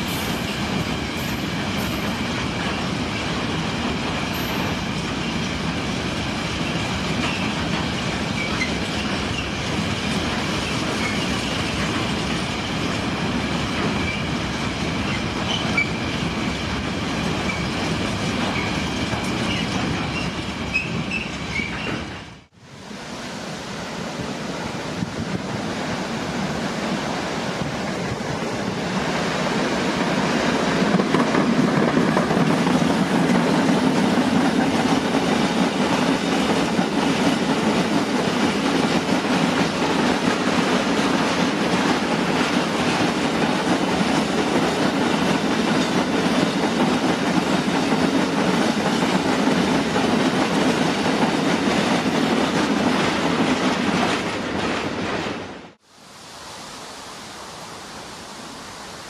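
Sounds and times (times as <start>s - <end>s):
train wheels clattering over rails: 0.0s - 22.5s, 25.0s - 55.8s
diesel locomotive passing: 0.0s - 55.8s.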